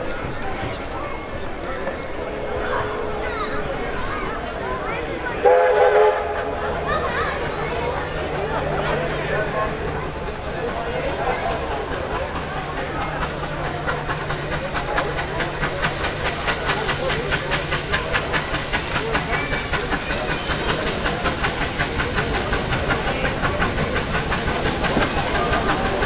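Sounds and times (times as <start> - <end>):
steam locomotive chuffing: 0.0 - 26.0
steam hissing: 3.0 - 26.0.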